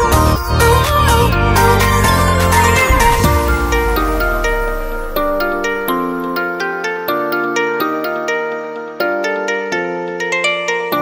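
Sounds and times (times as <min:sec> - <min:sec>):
gentle new-age music: 0:00.0 - 0:11.0.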